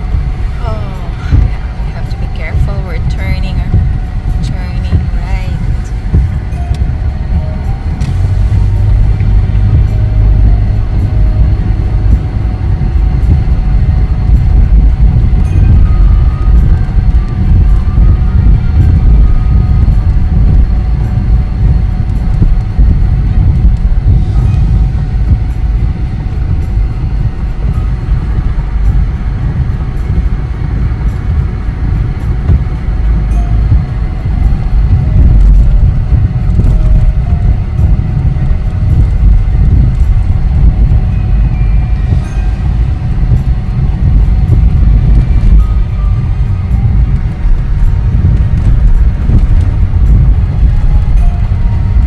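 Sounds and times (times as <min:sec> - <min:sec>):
car driving on snowy road: 0:00.0 - 0:52.0.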